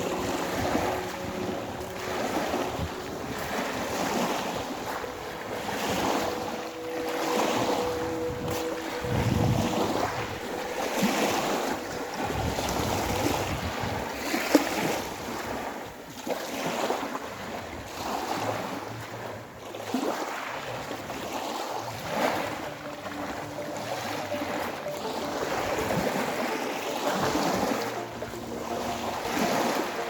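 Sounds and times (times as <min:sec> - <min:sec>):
sea waves washing in: 0:00.0 - 0:30.0
wind on microphone: 0:00.0 - 0:30.0.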